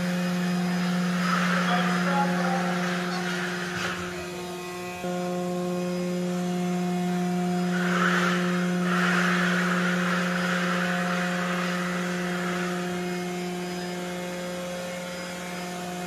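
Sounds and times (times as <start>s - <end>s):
electric drive humming: 0.0s - 16.0s
whirring hiss: 0.0s - 16.0s.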